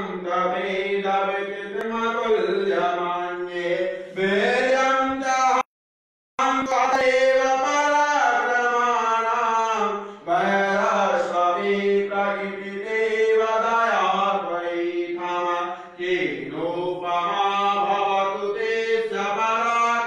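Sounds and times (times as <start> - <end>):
person chanting a hymn: 0.0 - 5.6, 6.4 - 20.0.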